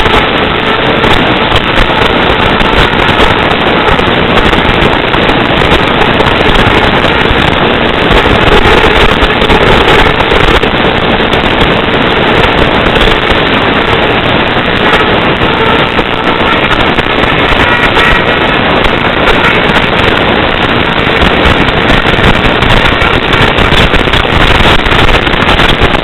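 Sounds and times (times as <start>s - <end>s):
radio static crackling hiss: 0.0s - 26.0s.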